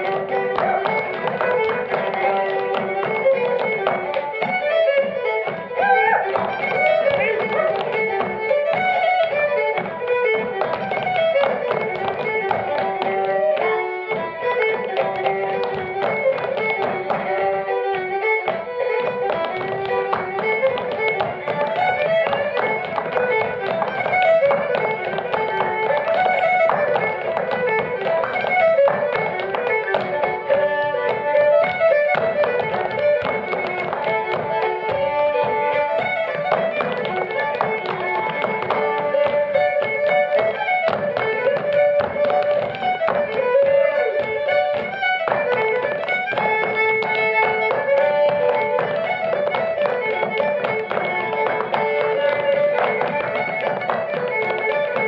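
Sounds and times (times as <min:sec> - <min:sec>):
fiddle playing dance tune: 0:00.0 - 0:55.0
shoes tapping on wooden floor: 0:00.0 - 0:55.0.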